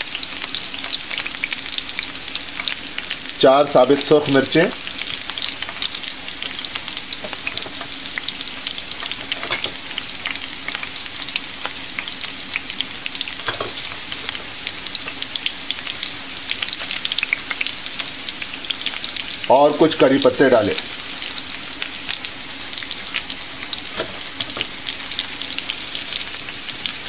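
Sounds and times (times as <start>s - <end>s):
onion sizzling in hot oil: 0.0s - 27.0s.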